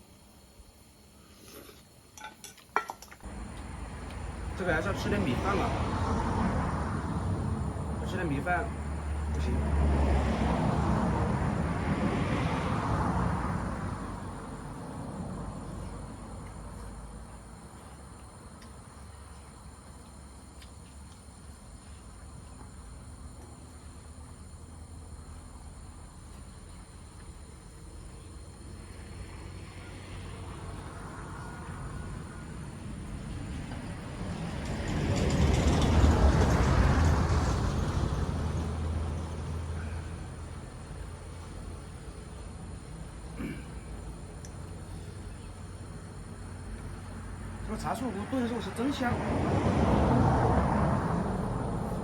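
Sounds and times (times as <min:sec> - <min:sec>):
insects chirring: 0:00.0 - 0:52.0
heavy vehicle passing by: 0:03.2 - 0:18.1, 0:21.7 - 0:52.0.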